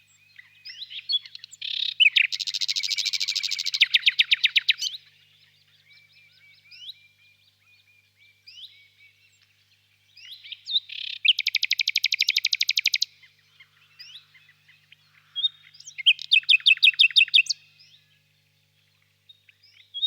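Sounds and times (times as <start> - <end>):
faint bird calls: 0.0 - 20.0
nightingale singing: 0.0 - 20.0.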